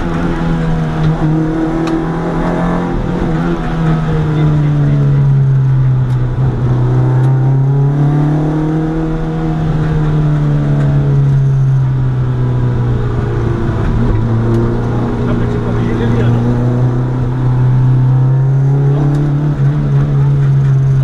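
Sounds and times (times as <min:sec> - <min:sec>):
rally car engine running hard: 0:00.0 - 0:21.0.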